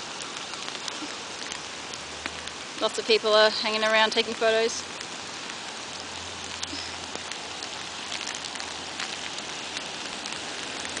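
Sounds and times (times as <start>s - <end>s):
raindrops ticking on surfaces: 0.0s - 11.0s
steady rain: 0.0s - 11.0s.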